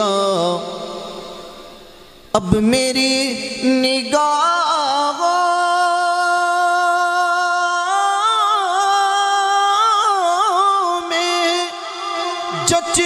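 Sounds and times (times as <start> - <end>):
man singing unaccompanied: 0.0 - 1.7, 2.3 - 13.0.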